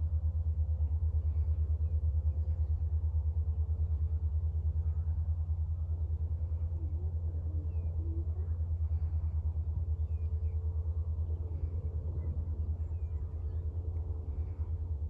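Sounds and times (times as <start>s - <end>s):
engine rumbling at low revs: 0.0s - 15.0s.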